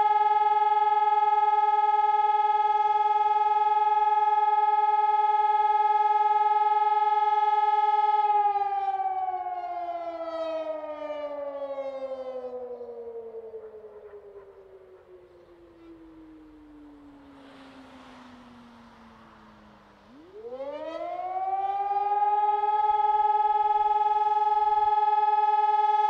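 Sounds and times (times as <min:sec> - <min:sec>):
electronic siren steady tone: 0:00.0 - 0:26.0.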